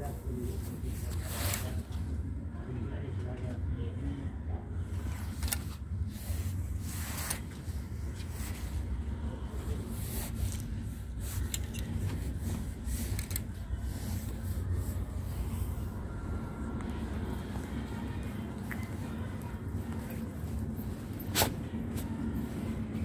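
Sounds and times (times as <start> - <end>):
steady low rumble: 0.0 - 23.0
fabric rubbing and rustling: 0.1 - 2.1, 4.8 - 23.0.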